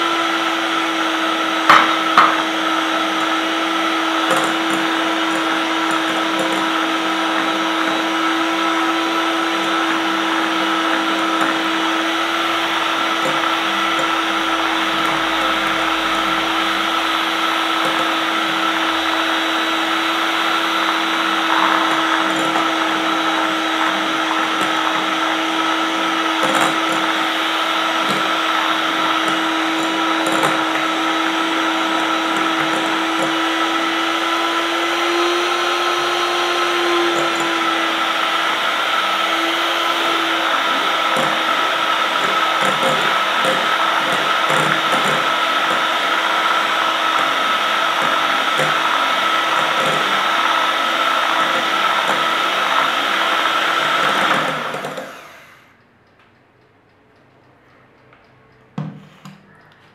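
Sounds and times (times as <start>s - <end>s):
electric hand mixer whining: 0.0s - 55.8s.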